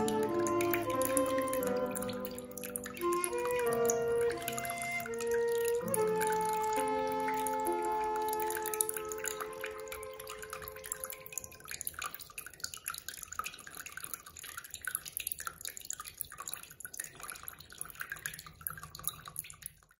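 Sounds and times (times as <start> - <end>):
water dripping and splashing: 0.0 - 20.0.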